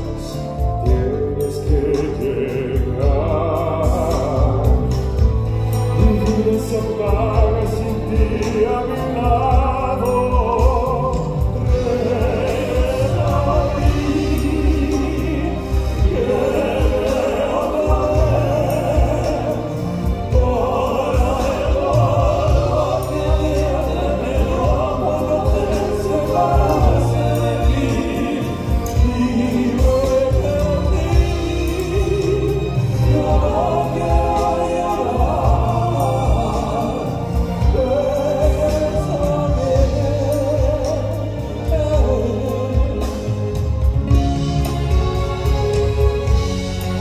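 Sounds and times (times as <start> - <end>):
live band with strong bass: 0.0 - 47.0
male vocal quartet singing: 0.0 - 47.0.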